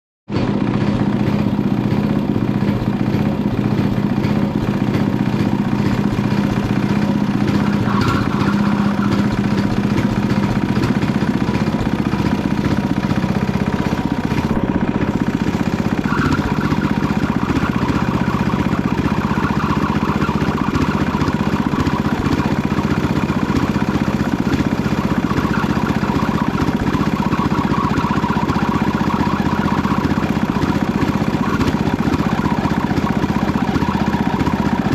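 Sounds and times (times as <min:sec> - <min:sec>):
garden tractor engine running: 0:00.3 - 0:34.9.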